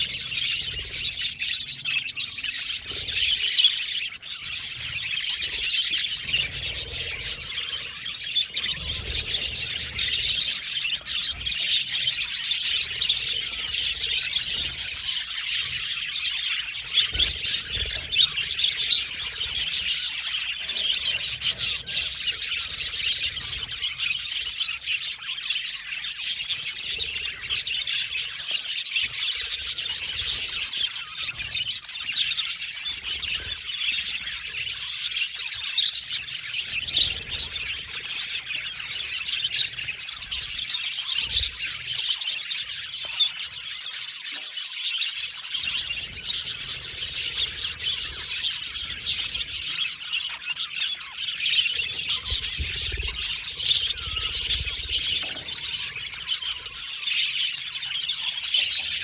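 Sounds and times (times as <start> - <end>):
budgerigars chirping and warbling: 0.0 - 59.0.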